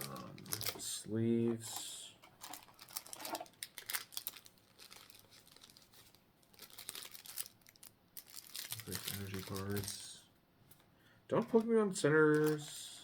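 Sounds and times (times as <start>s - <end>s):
plastic packaging crinkling: 0.0s - 10.2s, 12.3s - 12.8s.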